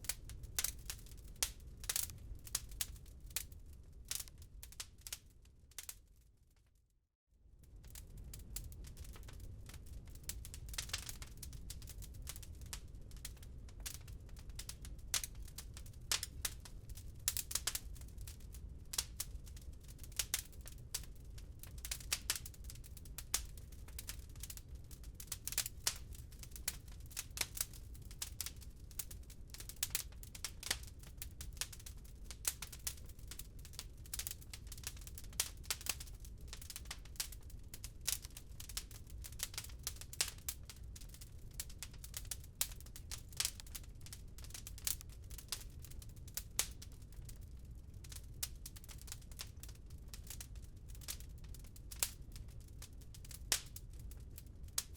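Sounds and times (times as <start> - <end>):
wood fire crackling: 0.0 - 6.0, 7.6 - 54.9.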